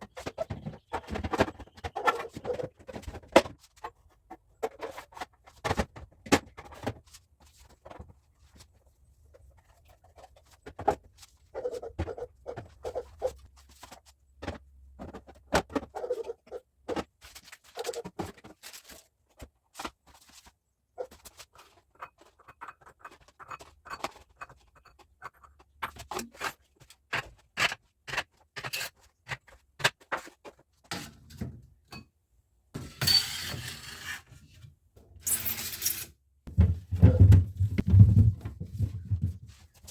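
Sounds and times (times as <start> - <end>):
containers and groceries being handled: 0.0 - 32.1, 36.5 - 39.9.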